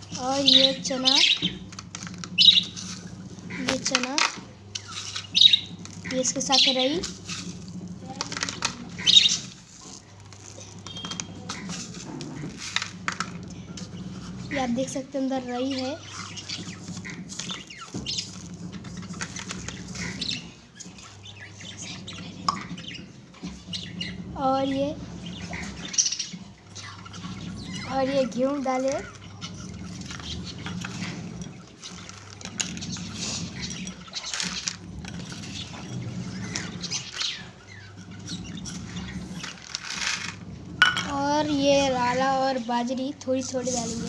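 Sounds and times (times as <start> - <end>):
grain rustling in steel bowl: 0.0 - 20.5, 27.0 - 44.0
lovebirds chirping and squawking: 0.0 - 44.0.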